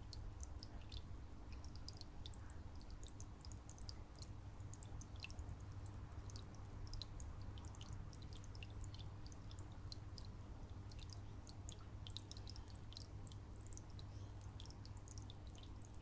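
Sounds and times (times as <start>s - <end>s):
small high water drips: 0.0s - 16.0s
water trickling: 0.0s - 16.0s.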